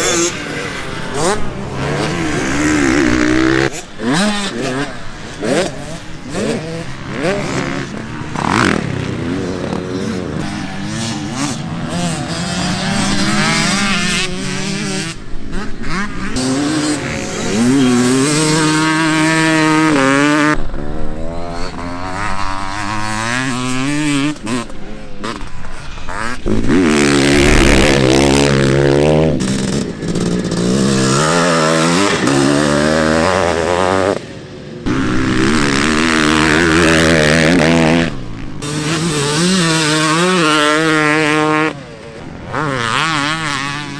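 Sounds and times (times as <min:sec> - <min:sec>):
dirt bike engines revving: 0:00.0 - 0:43.9.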